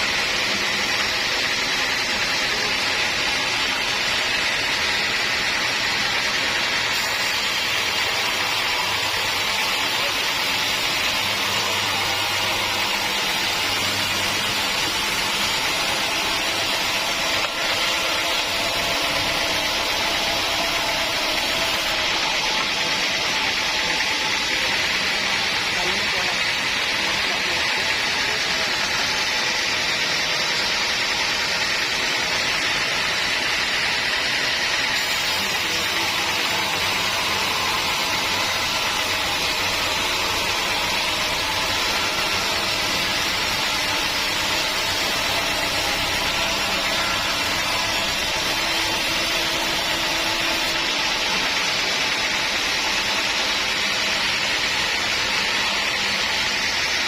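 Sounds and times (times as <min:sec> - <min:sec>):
sawmill machinery whirring: 0:00.0 - 0:57.0.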